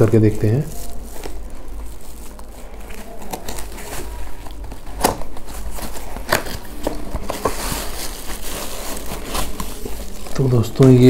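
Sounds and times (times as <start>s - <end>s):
plastic wrap crinkling: 0.0s - 11.0s
cardboard box being opened: 0.8s - 10.5s.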